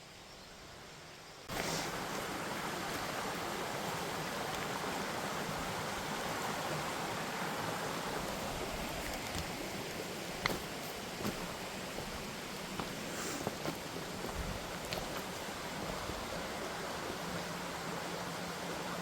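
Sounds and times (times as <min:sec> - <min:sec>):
brook flowing over rocks: 0:01.5 - 0:19.0.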